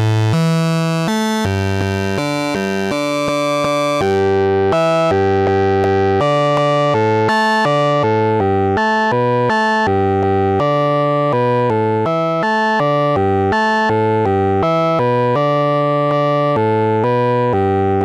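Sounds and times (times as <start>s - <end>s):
synthesizer bright pitched notes: 0.0s - 18.0s.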